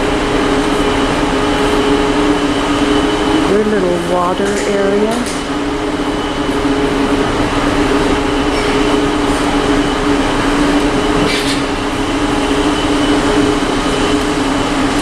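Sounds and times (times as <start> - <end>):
ventilation machinery drone: 0.0 - 15.0.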